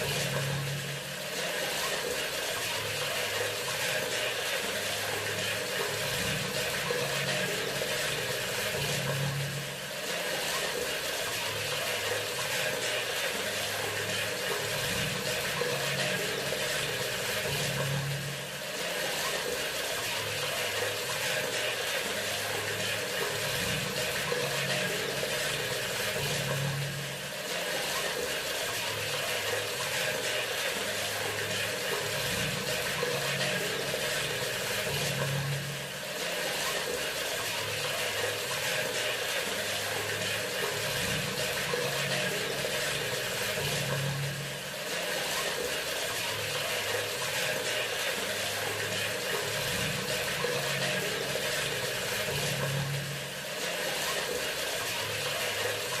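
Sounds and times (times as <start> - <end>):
tap water splashing into basin: 0.0 - 56.0.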